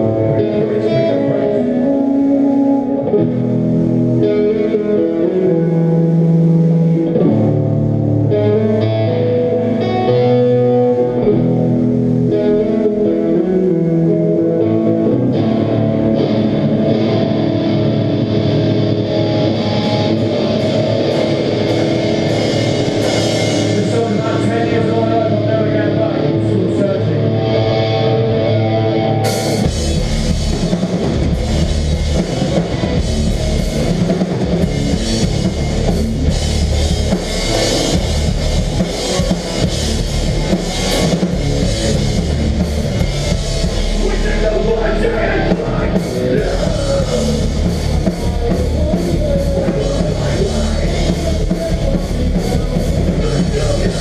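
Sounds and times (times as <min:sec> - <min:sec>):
live hardcore band playing: 0:00.0 - 0:54.0.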